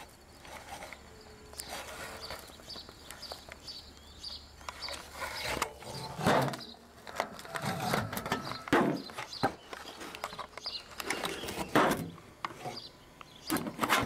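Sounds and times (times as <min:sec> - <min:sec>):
small bird chirping: 0:00.0 - 0:06.9, 0:08.4 - 0:11.8, 0:12.6 - 0:13.6.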